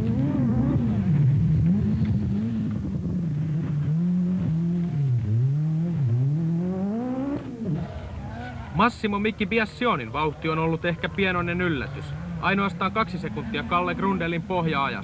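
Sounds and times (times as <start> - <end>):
rally car engine revving hard: 0.0 - 8.8, 10.6 - 14.7.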